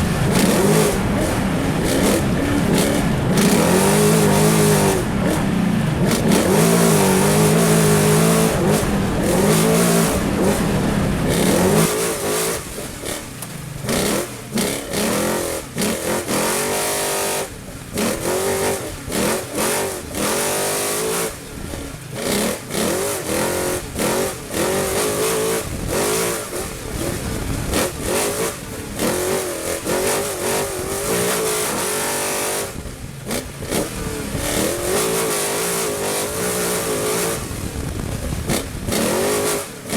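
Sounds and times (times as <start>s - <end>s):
race truck engine revving: 0.0s - 39.9s.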